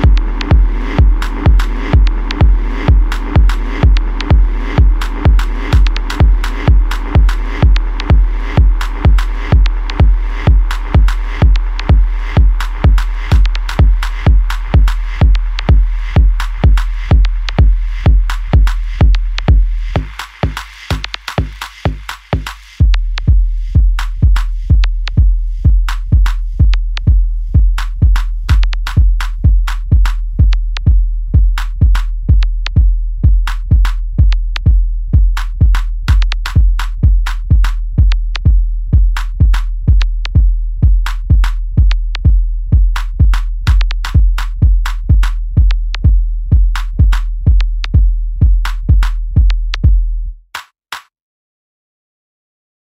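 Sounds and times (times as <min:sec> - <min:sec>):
kick drum: 0:00.0 - 0:50.6.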